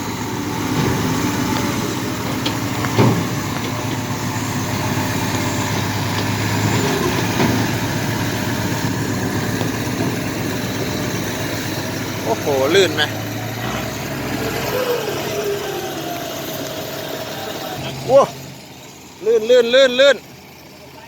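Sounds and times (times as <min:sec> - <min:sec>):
vehicle engines running: 0:00.0 - 0:21.0.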